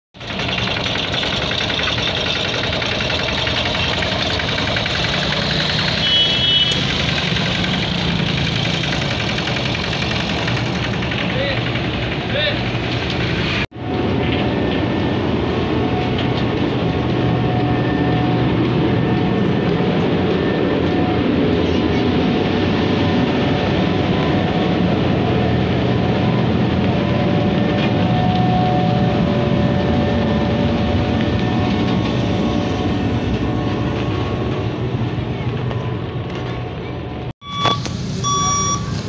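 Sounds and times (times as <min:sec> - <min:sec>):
road roller diesel engine: 0:00.1 - 0:39.0.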